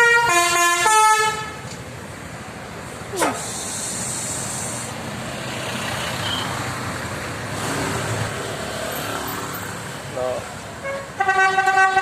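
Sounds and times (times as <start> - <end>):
bus engine rumble: 0.0 - 12.0
roadside traffic noise: 0.0 - 12.0.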